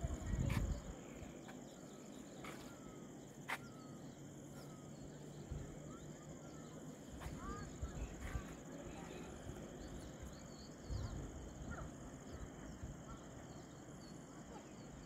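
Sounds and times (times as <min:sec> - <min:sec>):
bird chirps: 0:00.0 - 0:15.0
high-pitched insect chorus: 0:00.0 - 0:15.0.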